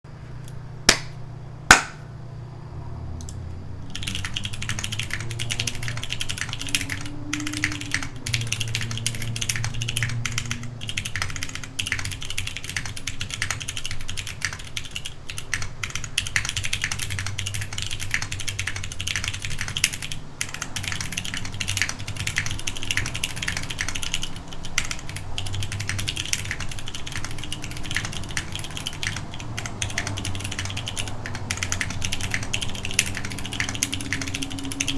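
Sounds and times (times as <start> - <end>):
keyboard typing: 3.2 - 34.9.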